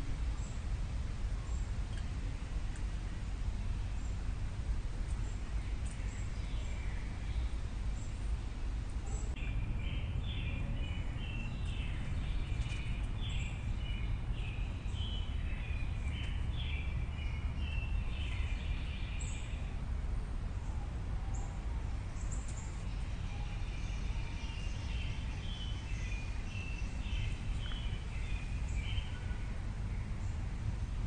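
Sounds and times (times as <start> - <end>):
steady low rumble: 0.0 - 31.0
small birds chirping: 0.2 - 0.6, 5.0 - 19.9, 20.5 - 31.0.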